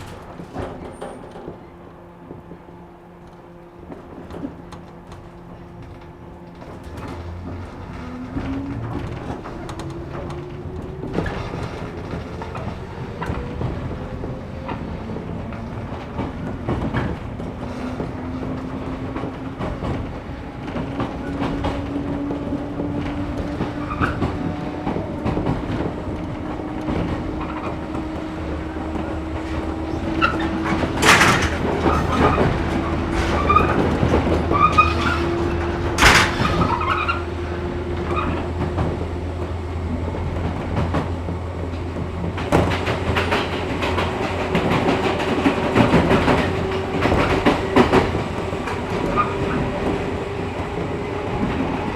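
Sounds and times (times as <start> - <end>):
wheel and rail running noise: 0.0 - 51.9.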